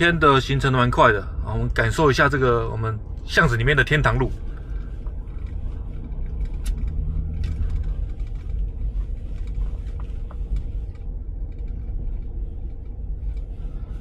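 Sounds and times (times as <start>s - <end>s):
tyre and road rumble: 0.0s - 14.0s.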